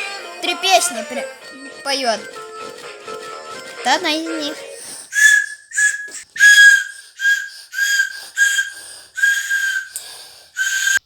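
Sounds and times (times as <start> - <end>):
child blowing a whistle: 1.9 - 11.0.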